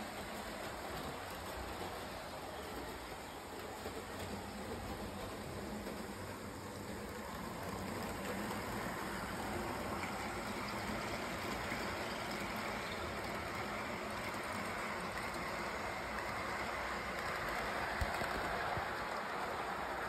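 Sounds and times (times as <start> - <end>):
model train rolling on track: 0.0 - 20.0.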